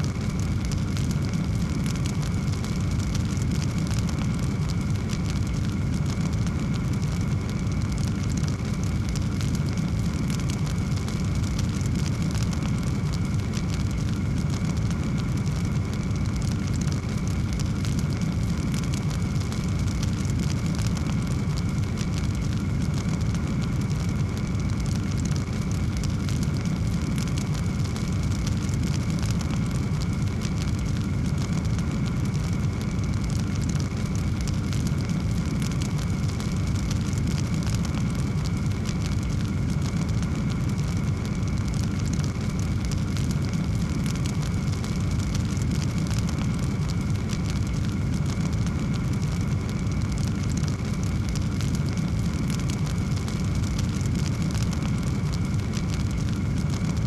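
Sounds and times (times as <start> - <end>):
fire crackling: 0.0 - 57.0
low roar of flames: 0.0 - 57.0.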